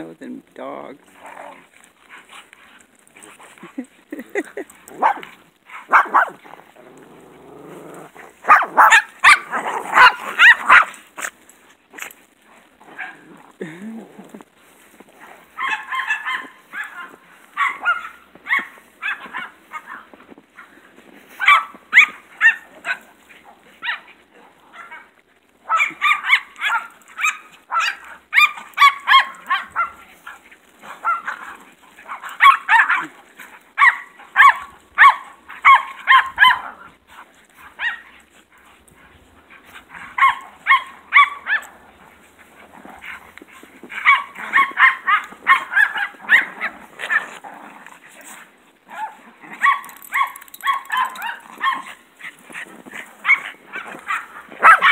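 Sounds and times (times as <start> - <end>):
small dogs yapping: 4.8 - 11.3, 15.5 - 20.7, 21.3 - 54.9.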